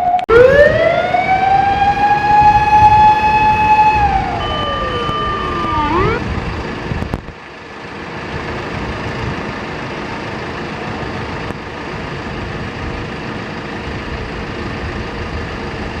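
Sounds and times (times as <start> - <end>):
road traffic noise: 0.0 - 16.0
large vehicle engine running: 0.3 - 16.0.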